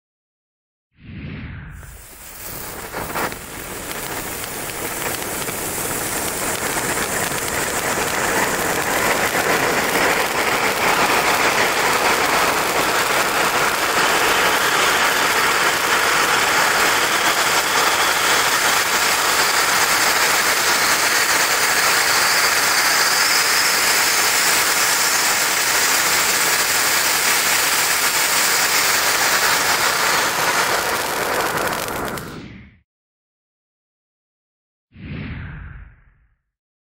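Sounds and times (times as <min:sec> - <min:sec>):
firework fountain hissing sparks: 0:01.8 - 0:32.4.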